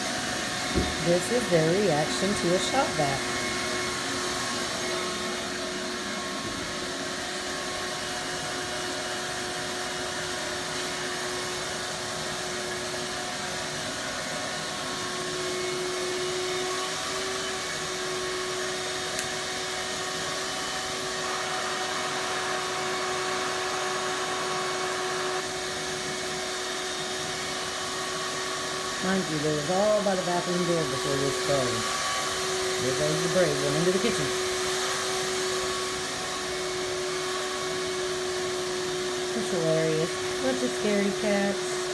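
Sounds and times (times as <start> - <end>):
shop vac running: 0.0 - 41.9.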